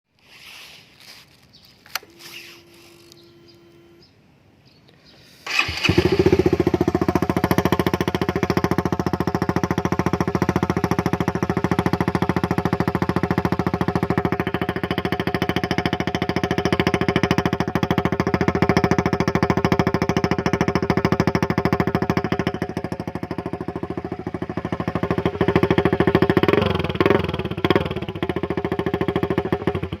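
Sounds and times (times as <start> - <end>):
motorcycle engine idling and revving: 1.0 - 4.1, 5.4 - 30.0.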